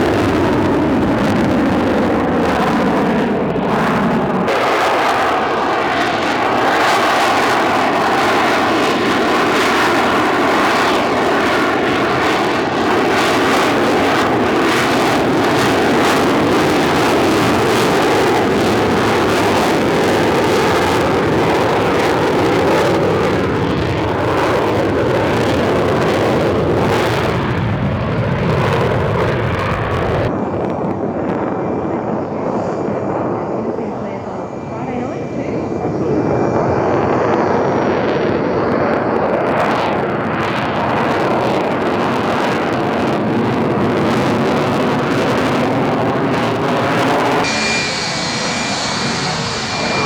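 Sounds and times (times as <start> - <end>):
aircraft engine running: 0.0 - 30.3, 32.0 - 38.9, 44.4 - 50.0.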